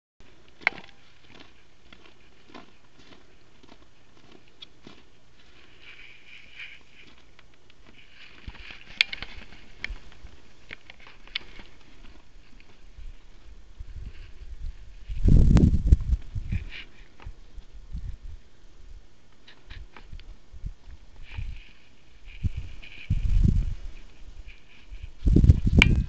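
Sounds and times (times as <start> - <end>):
footsteps crunching on snow: 0.2 - 18.2, 19.4 - 26.0.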